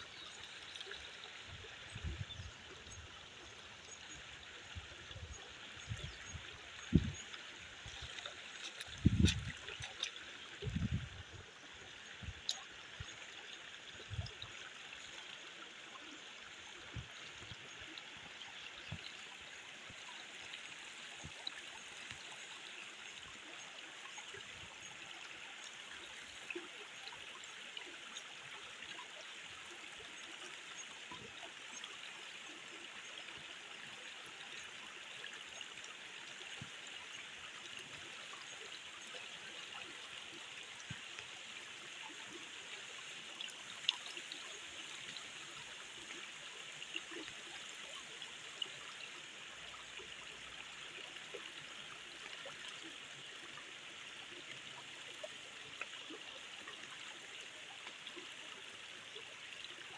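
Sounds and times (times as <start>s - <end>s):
stream babbling over rock: 0.0s - 59.9s.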